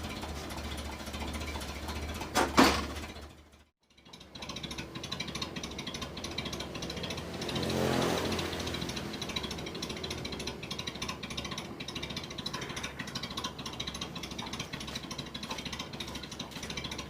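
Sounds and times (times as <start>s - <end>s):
petrol engine running: 0.0s - 17.0s.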